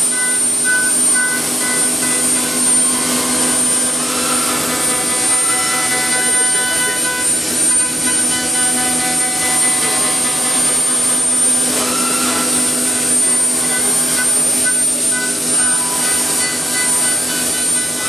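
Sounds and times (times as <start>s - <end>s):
high-pitched whine: 0.0s - 18.0s
woodworking machine running: 0.0s - 18.0s.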